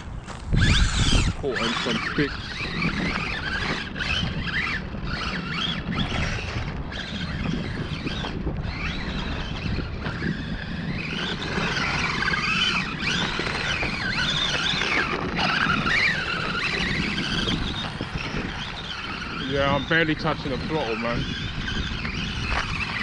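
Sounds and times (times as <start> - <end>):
electric motor whining: 0.0 - 23.0
wheels spinning on wet surface: 0.0 - 23.0.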